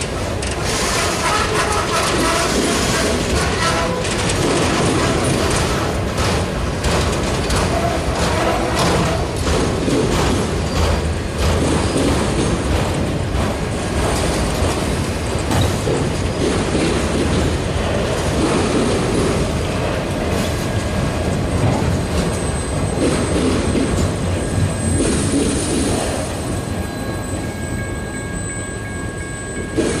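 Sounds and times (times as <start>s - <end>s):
freight train wheels rumbling and clicking: 0.0s - 30.0s.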